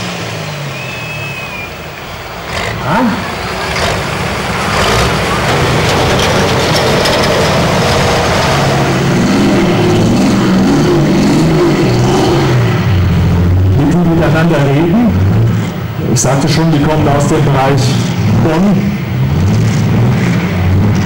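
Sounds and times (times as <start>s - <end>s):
diesel engine running loudly: 0.0s - 21.0s.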